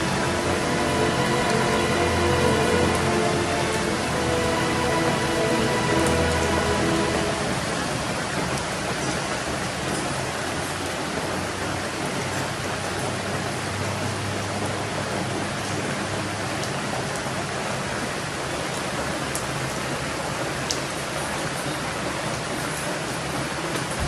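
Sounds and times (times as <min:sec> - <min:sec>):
rain rushing: 0:00.0 - 0:24.0.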